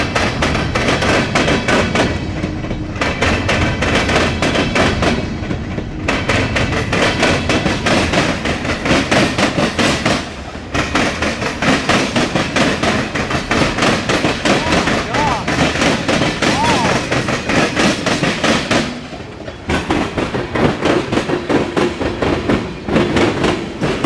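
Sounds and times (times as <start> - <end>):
low train rumble: 0.0 - 24.0
train wheels clacking over rail joints: 0.0 - 24.0.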